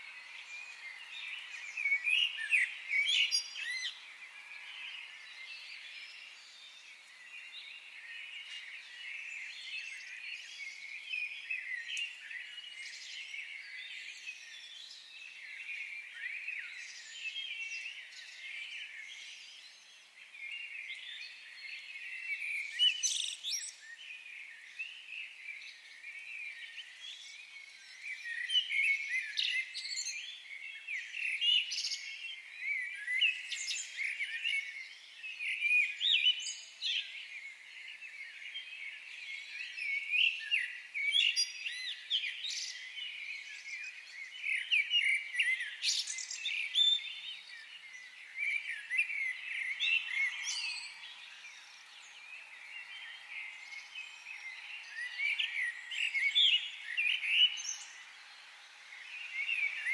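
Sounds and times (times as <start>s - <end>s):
birds singing in a forest: 0.0s - 59.9s.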